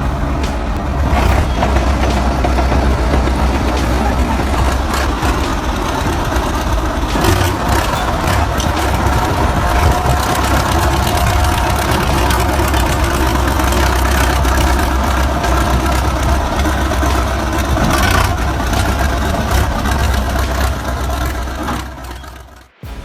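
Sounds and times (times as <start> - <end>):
large vehicle engine droning: 0.0 - 23.0.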